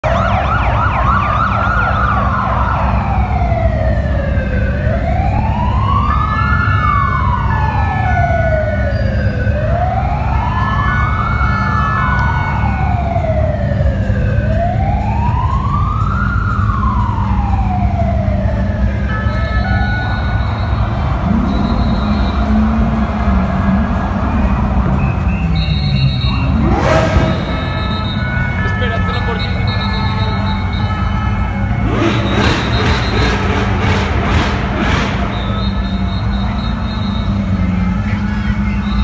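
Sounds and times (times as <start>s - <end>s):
siren wailing: 0.0s - 39.0s.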